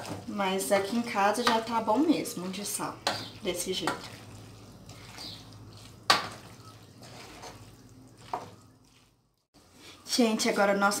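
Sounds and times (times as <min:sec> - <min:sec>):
spoon stirring pasta in sauce: 0:00.0 - 0:09.2.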